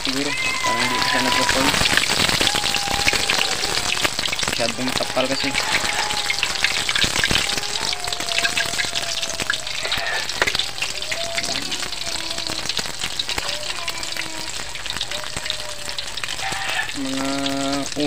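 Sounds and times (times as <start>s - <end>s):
deep-frying sizzle with pops: 0.0s - 18.0s.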